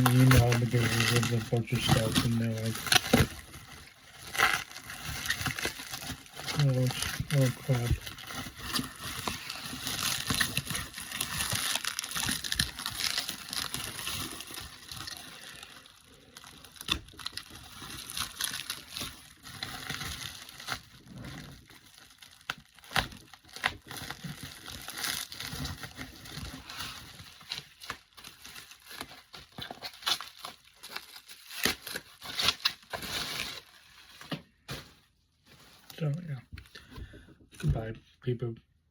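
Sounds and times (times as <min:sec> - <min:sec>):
packing paper crumpled by hand: 0:00.0 - 0:36.4.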